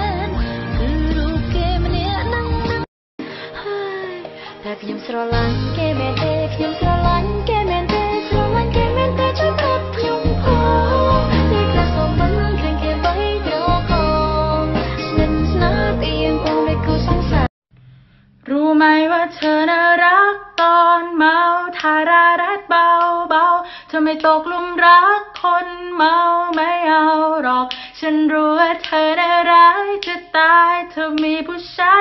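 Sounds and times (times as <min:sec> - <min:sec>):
woman singing: 0:00.0 - 0:17.5, 0:18.5 - 0:32.0.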